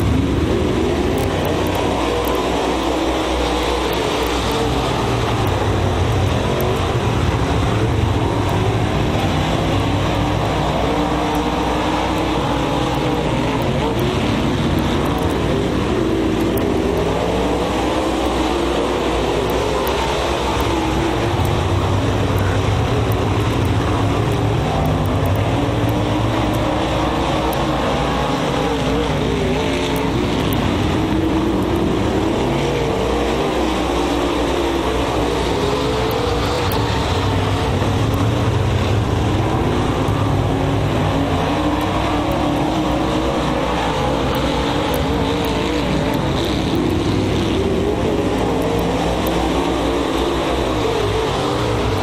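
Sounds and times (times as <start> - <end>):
race car engines: 0.0 - 52.0.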